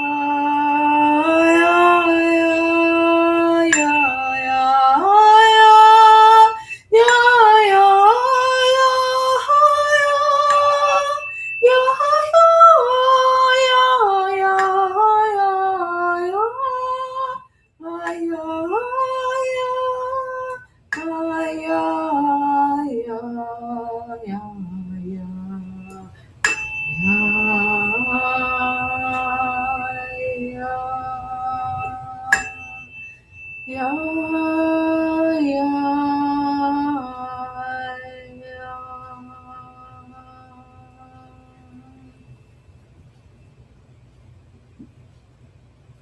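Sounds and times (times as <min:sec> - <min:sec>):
woman singing held tones: 0:00.0 - 0:42.9
tuning fork ringing: 0:00.0 - 0:43.8.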